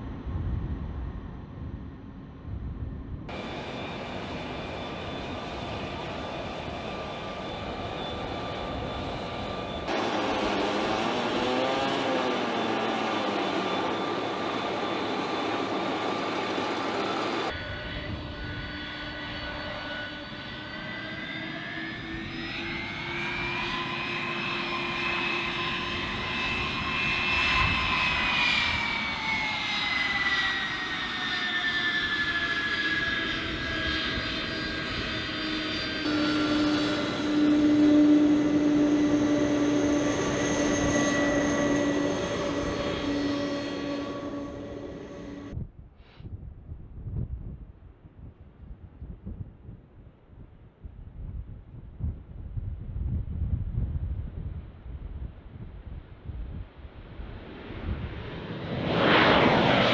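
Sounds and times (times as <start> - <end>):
jet engines whining and rushing: 0.0 - 45.6, 56.5 - 59.9.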